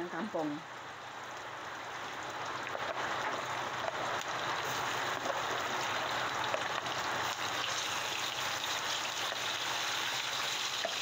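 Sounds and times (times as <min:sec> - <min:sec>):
chicken sizzling in hot oil: 0:00.7 - 0:11.0.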